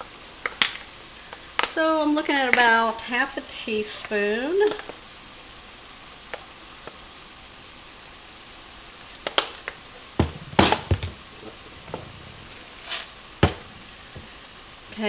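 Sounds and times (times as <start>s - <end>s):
ground beef sizzling in pan: 0.0s - 15.0s.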